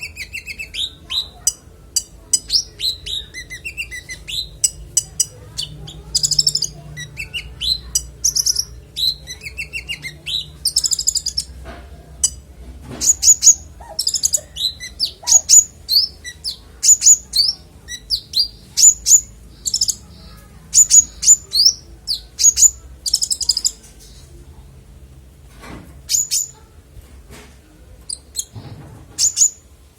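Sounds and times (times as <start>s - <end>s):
songbird singing: 0.0s - 24.4s, 26.1s - 26.6s, 28.0s - 29.7s.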